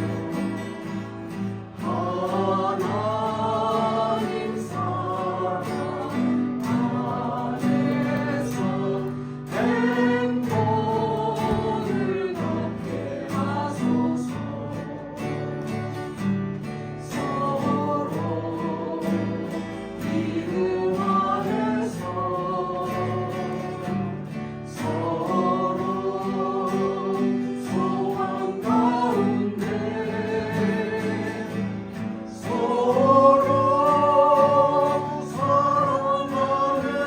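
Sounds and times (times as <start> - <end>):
guitars: 0.0 - 37.0
small ensemble singing a hymn: 0.0 - 37.0.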